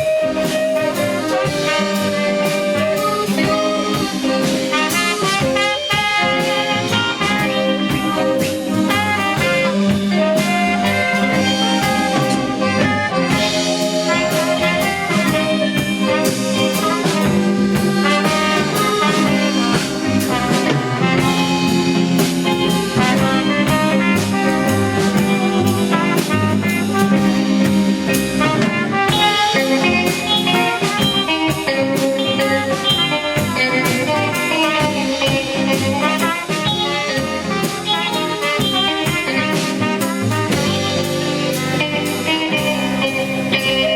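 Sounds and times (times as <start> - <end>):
band playing with horns: 0.0 - 43.9
steady drum beat: 0.0 - 43.9.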